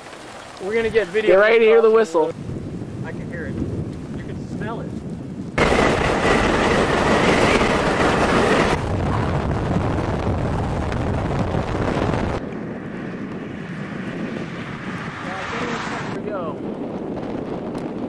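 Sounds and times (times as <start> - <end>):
storm wind roaring on microphone: 0.4 - 18.0.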